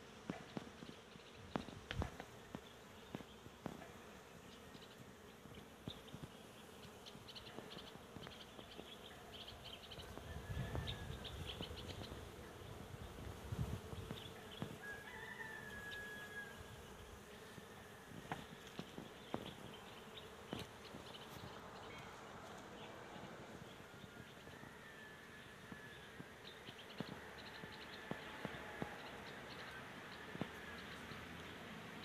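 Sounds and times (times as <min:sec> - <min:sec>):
honeybees buzzing: 0:00.0 - 0:32.0.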